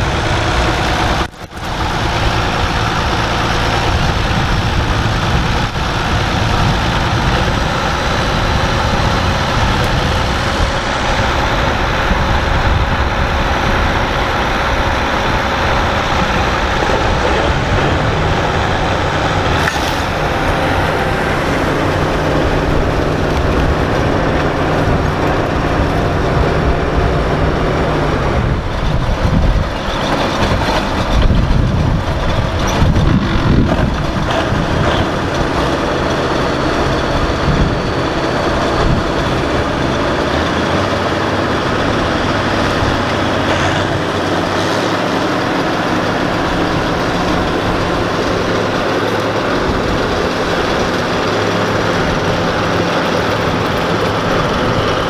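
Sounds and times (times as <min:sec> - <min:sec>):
tractor and combine engines under load: 0:00.0 - 0:55.0.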